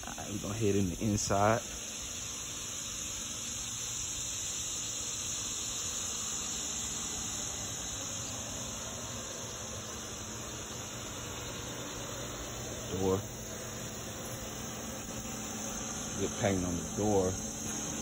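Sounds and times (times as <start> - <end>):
air conditioner unit humming: 0.0 - 18.0.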